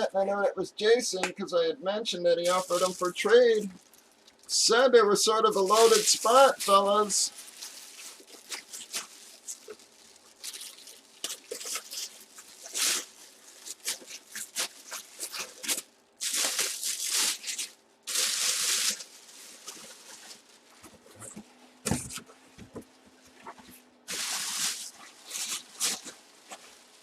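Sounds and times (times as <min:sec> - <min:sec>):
packaging rustling: 0:02.4 - 0:04.5, 0:05.5 - 0:27.0
packaging scraping: 0:02.4 - 0:04.5, 0:05.5 - 0:22.3, 0:23.5 - 0:27.0.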